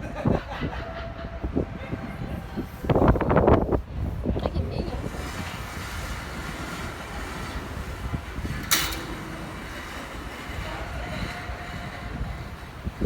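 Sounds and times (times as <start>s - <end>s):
wind on microphone: 0.0s - 13.0s
traffic rumble on steel bridge: 1.4s - 13.0s.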